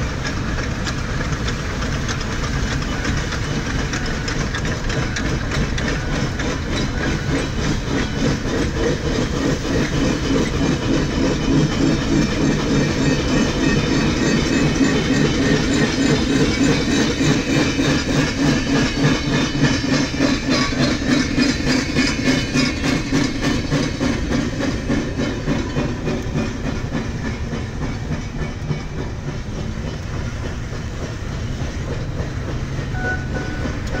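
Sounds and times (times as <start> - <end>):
train wheels clicking over rail joints: 0.0 - 34.0.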